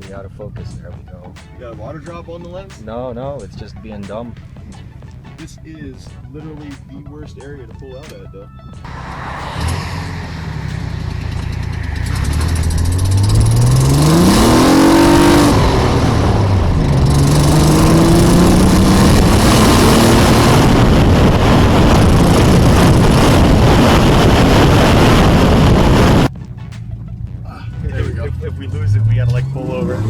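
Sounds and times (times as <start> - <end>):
car engine accelerating: 0.0 - 30.0
wind and road noise: 0.0 - 30.0.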